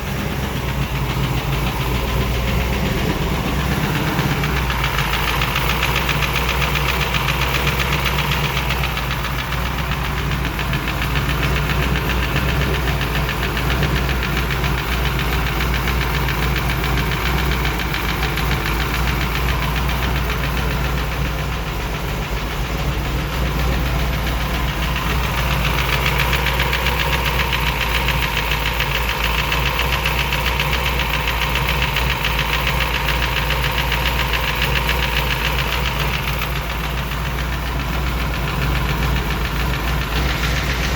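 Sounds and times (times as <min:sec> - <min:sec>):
car engine running: 0:00.0 - 0:40.9
rapid valvetrain ticking: 0:00.0 - 0:40.9.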